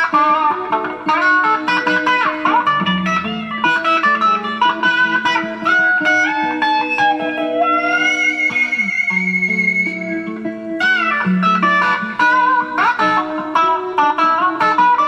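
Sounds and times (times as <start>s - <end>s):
electric guitar lead: 0.0s - 15.0s.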